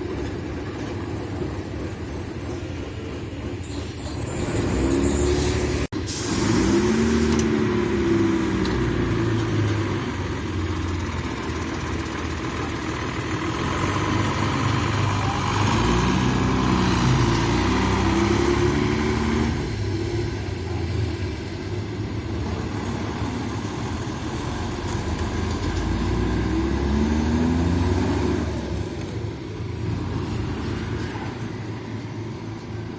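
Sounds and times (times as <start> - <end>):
diesel bus engine revving: 4.3 - 32.9.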